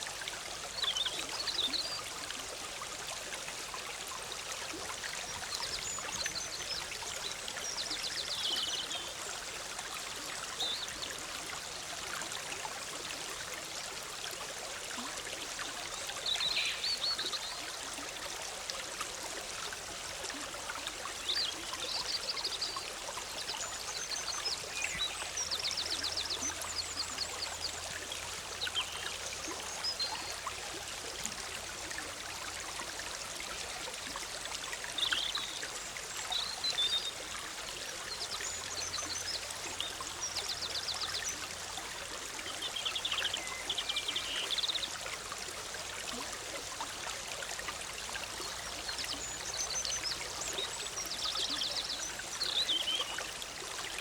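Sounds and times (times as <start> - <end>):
stream bubbling: 0.0 - 54.0.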